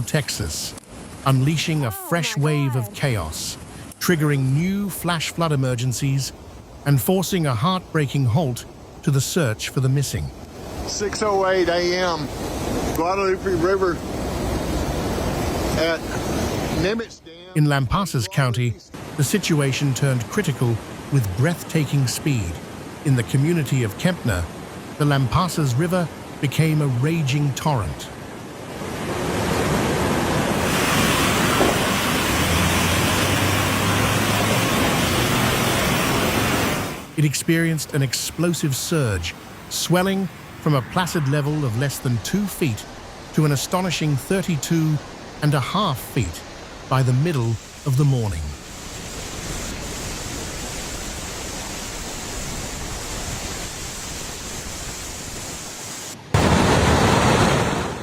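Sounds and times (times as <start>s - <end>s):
river floodwater rushing: 0.0s - 58.0s.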